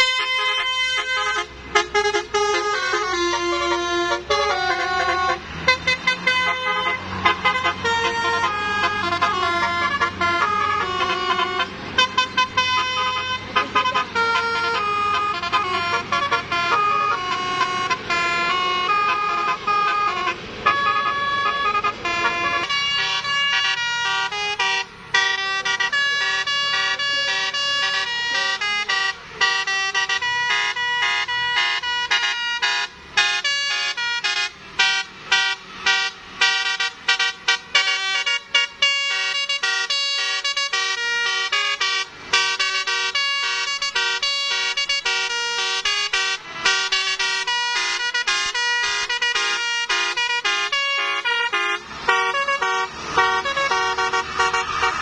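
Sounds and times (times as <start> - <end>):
bus engine running: 0.0 - 55.0
bus horn multi-note melody: 0.0 - 55.0.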